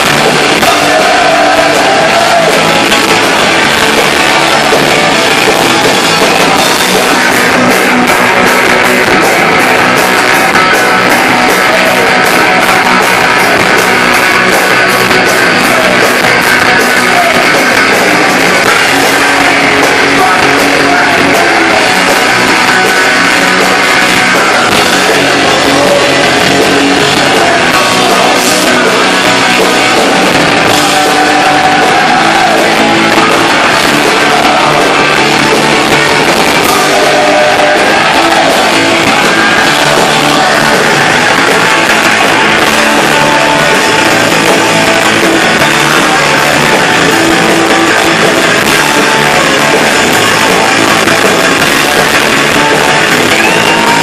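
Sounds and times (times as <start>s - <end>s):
live punk rock band: 0.0s - 54.0s.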